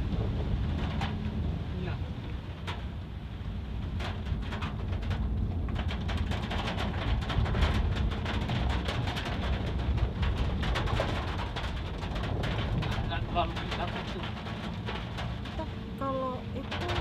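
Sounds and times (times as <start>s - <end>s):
car engine and tyre rumble: 0.0s - 17.0s
rain ticking on car roof: 0.0s - 17.0s.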